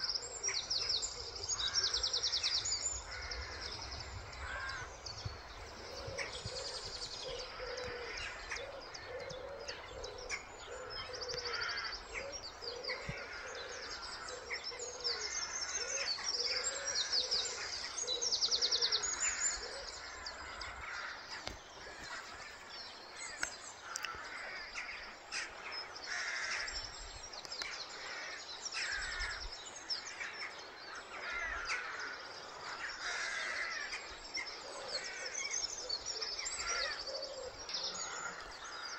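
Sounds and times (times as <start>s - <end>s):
birds trilling and chirping: 0.0s - 38.9s
low repeated bird call: 0.0s - 38.9s.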